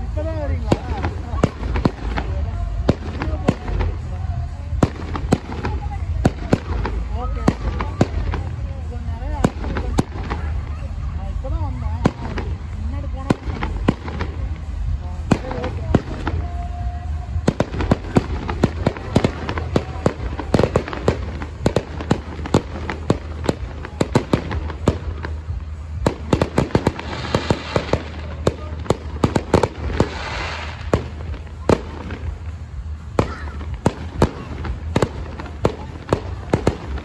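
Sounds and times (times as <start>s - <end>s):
fireworks bangs: 0.0s - 37.0s
fireworks hissing crackle: 0.0s - 37.0s.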